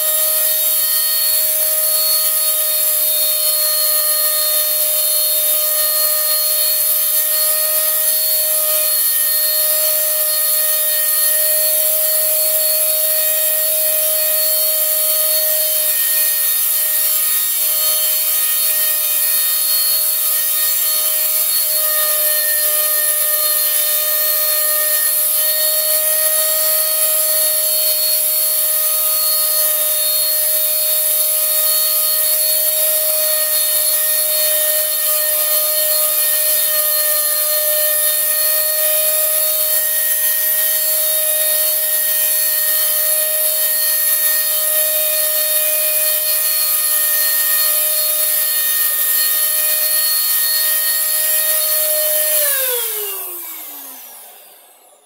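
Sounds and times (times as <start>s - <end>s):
power tool motor hissing: 0.0s - 55.0s.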